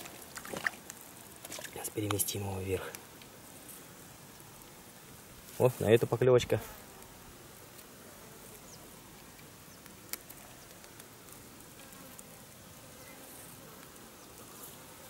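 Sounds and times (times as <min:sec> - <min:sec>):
insect buzzing: 0:00.0 - 0:15.0.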